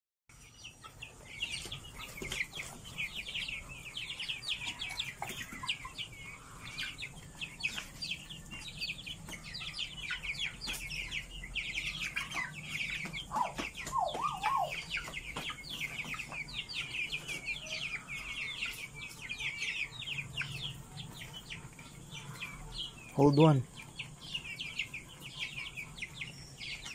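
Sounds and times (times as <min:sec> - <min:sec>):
young chickens peeping: 0:00.3 - 0:26.9.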